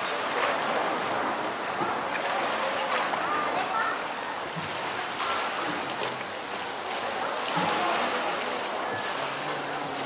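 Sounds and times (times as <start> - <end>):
moving water wash: 0.0 - 10.0
water sloshing and splashing: 0.0 - 10.0.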